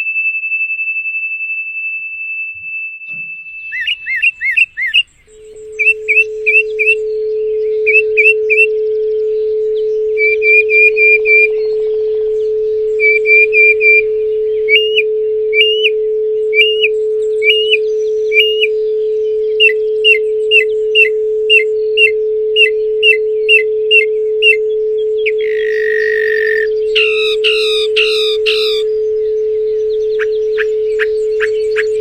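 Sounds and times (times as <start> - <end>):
songbird singing: 3.1 - 32.0
steady pure tone: 3.1 - 32.0.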